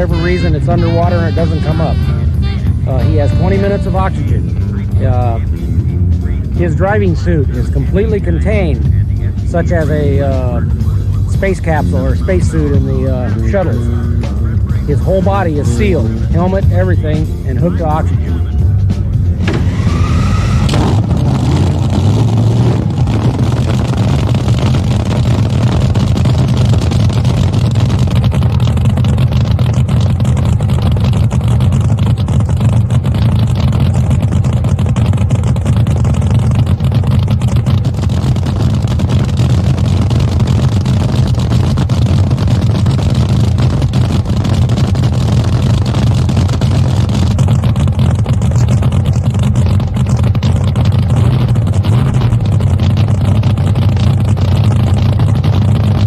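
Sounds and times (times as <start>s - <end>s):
boat engine idling rumble: 0.0s - 56.0s.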